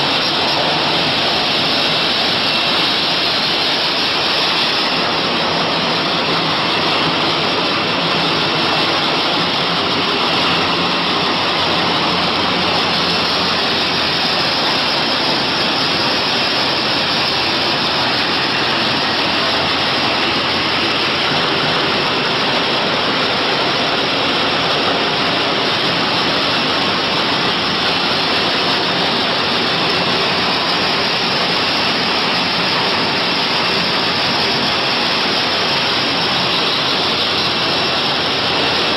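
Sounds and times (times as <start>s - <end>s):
packaging machines running: 0.0s - 38.9s.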